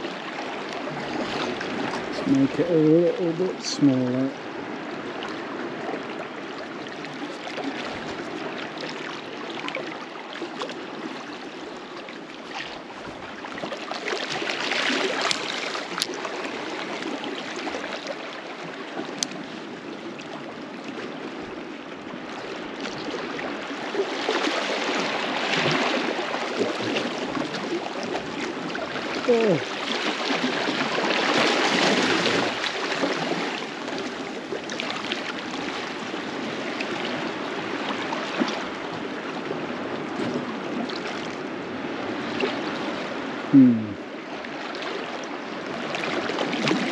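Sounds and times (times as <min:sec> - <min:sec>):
waves washing against rocks: 0:00.0 - 0:20.2, 0:22.4 - 0:43.4.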